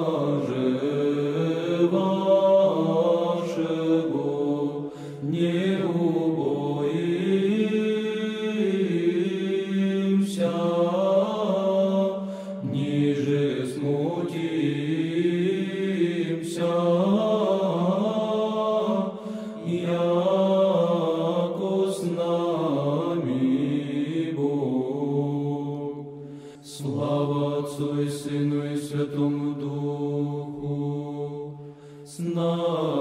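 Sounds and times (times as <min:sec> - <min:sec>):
choir chanting slow held chords: 0:00.0 - 0:33.0.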